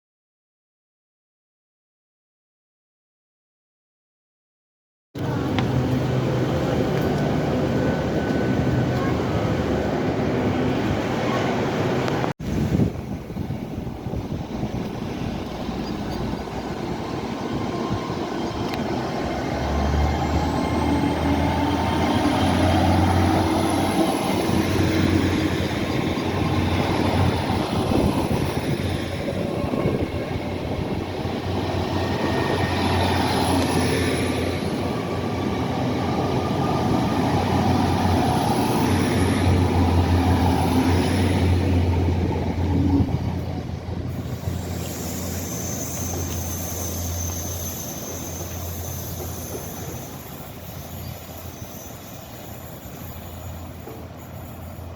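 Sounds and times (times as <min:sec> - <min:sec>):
rail noise: 0:05.2 - 0:54.9
train running: 0:05.2 - 0:54.9.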